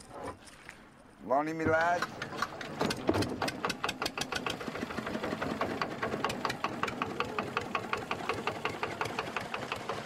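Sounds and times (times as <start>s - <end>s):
boat engine running: 1.7s - 10.0s.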